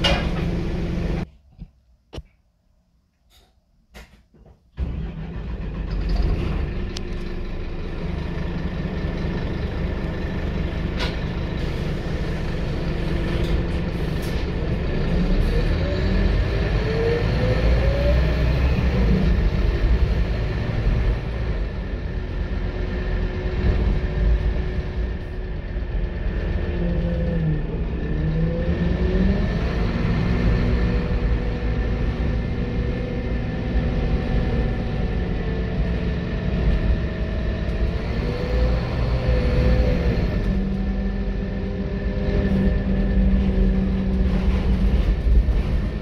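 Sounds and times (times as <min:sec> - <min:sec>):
bus diesel engine accelerating: 0:00.0 - 0:01.3, 0:04.8 - 0:46.0.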